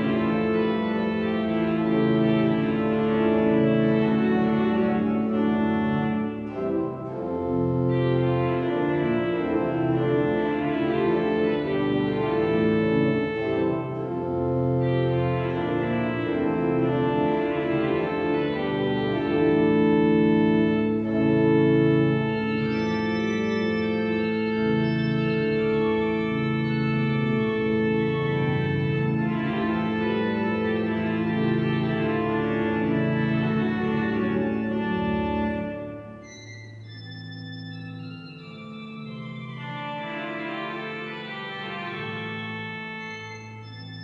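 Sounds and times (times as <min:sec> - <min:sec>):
pipe organ playing folk dance tune: 0:00.0 - 0:44.0.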